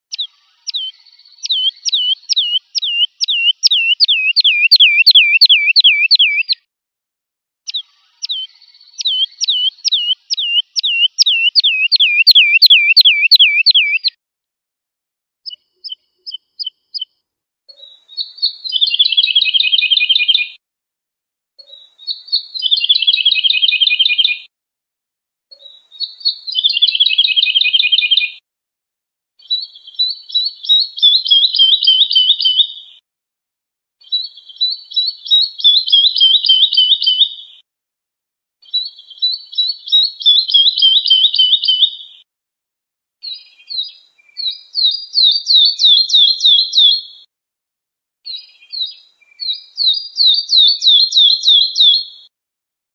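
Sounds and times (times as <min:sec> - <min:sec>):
lark singing: 0:00.1 - 0:06.7, 0:07.7 - 0:14.2, 0:15.4 - 0:20.6, 0:21.6 - 0:24.5, 0:25.5 - 0:28.4, 0:29.4 - 0:32.9, 0:34.0 - 0:37.6, 0:38.6 - 0:42.2, 0:43.2 - 0:47.3, 0:48.3 - 0:52.3.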